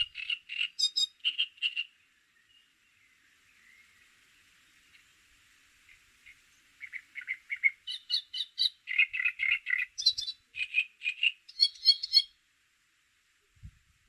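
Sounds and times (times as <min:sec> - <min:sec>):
songbird singing chirped notes: 0:00.0 - 0:12.4.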